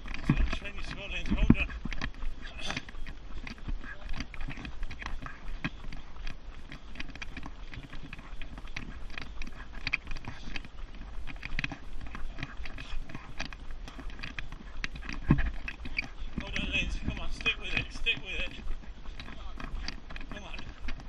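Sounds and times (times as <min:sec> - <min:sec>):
stroller wheels rumbling: 0:00.0 - 0:21.0
wheels and frame clicking: 0:00.0 - 0:21.0.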